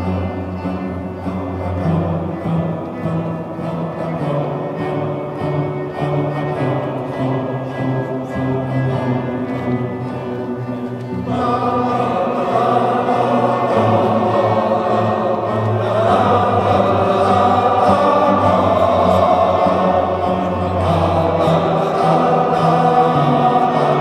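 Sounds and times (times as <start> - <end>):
mixed choir singing: 1.6 - 10.4, 11.1 - 24.0.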